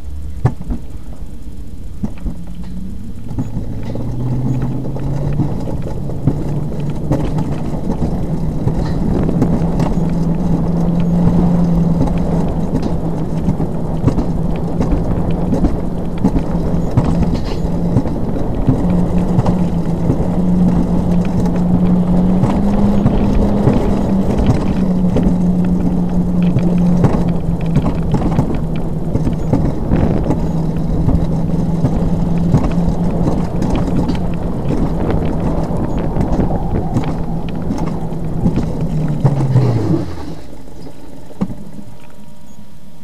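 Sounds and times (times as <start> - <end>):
sled wheels rumbling on steel track: 0.0 - 43.0
knocks from rails: 0.3 - 1.4, 2.0 - 40.4.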